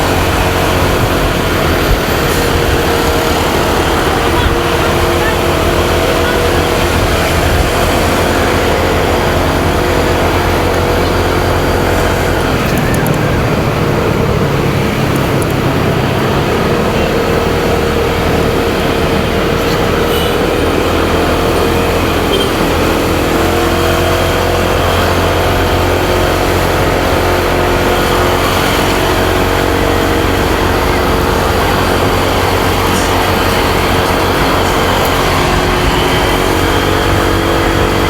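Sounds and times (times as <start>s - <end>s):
motorcycle engine running: 0.0s - 38.0s
wind rush on microphone: 0.0s - 38.0s.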